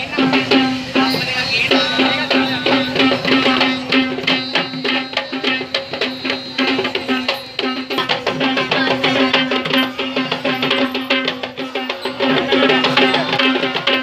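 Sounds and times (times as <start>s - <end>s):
drums beaten in fast rhythm: 0.0s - 14.0s
steady held note: 0.2s - 14.0s.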